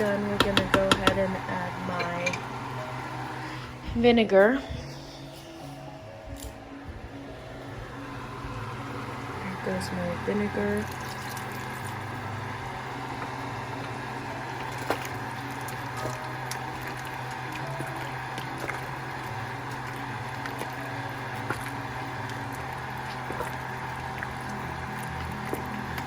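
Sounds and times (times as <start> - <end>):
steady low hum: 0.0 - 26.0
stew simmering and bubbling: 0.0 - 26.0.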